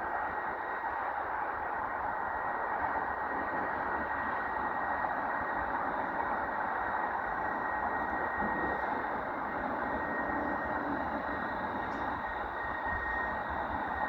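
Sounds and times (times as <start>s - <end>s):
train running rumble: 0.0s - 14.0s
train wheels squealing: 0.1s - 14.0s.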